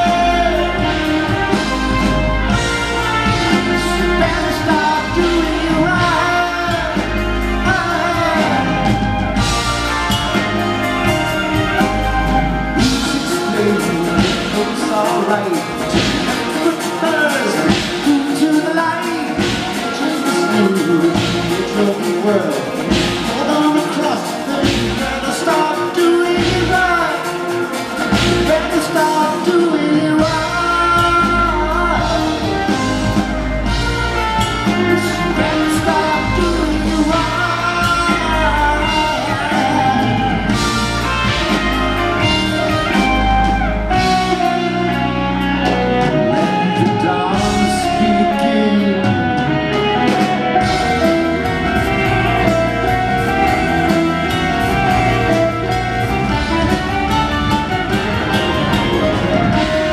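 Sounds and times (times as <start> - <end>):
lead vocal singing: 0.0 - 59.9
live rock band playing: 0.0 - 59.9.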